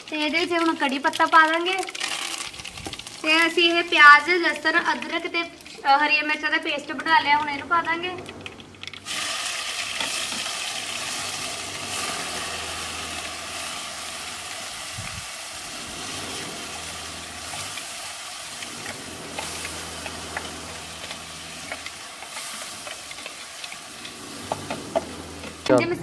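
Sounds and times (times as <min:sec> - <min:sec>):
paste sizzling in hot oil: 0:00.0 - 0:06.9, 0:08.9 - 0:26.0.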